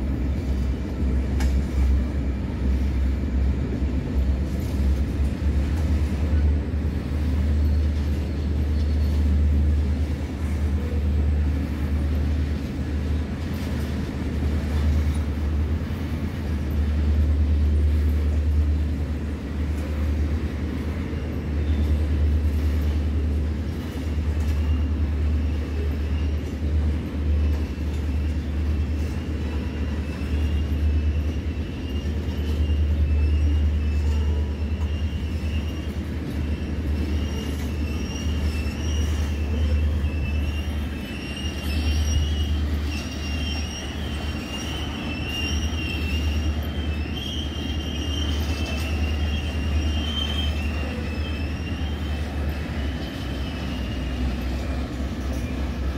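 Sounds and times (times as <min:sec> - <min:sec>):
freight train cars rumbling past: 0:00.0 - 0:55.9
steel wheels squealing on rail: 0:00.0 - 0:55.9.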